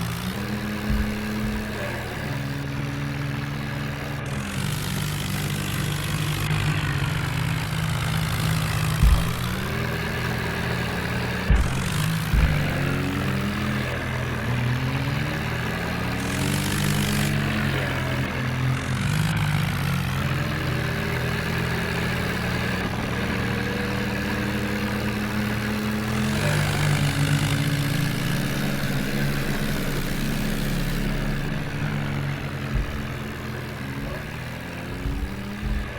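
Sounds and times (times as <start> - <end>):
tractor engine revving: 0.0 - 35.9.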